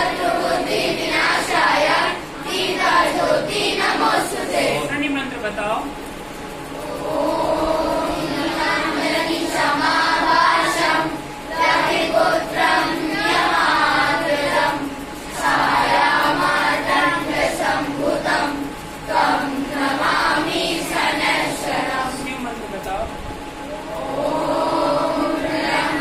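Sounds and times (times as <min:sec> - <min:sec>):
children singing in unison: 0:00.0 - 0:04.9, 0:06.7 - 0:22.2, 0:23.6 - 0:26.0.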